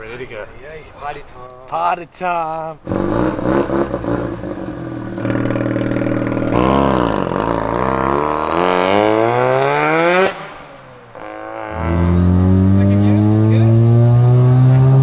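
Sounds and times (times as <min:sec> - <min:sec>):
rotary engine accelerating: 0:02.8 - 0:15.0.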